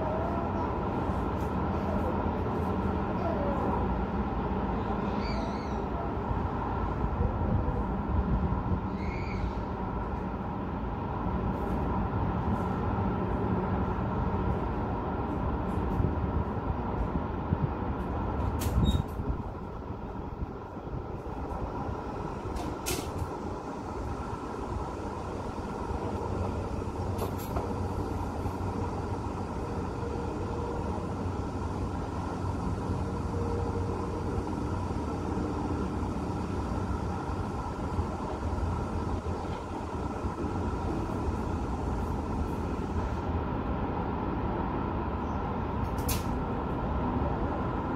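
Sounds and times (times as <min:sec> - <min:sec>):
city road traffic hum: 0:00.0 - 0:47.9.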